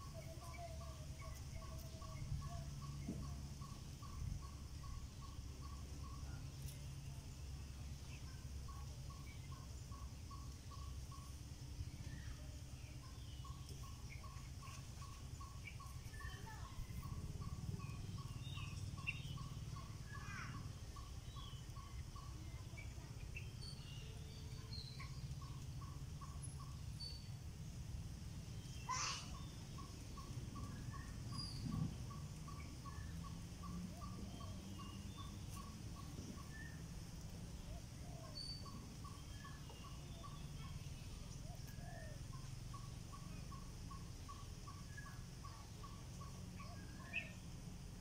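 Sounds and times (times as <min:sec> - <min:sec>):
bird chirps: 0:00.0 - 0:48.0
birds calling: 0:00.0 - 0:48.0
low steady hum: 0:00.0 - 0:48.0.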